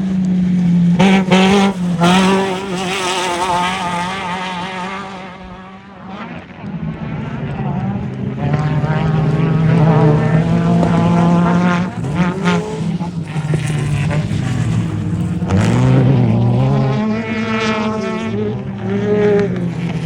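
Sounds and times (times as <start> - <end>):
race vehicle engines revving: 0.0 - 20.0.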